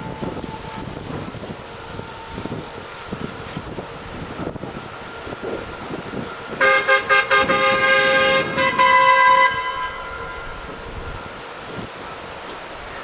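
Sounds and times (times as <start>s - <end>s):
locomotive horn blasts: 0.0s - 11.5s.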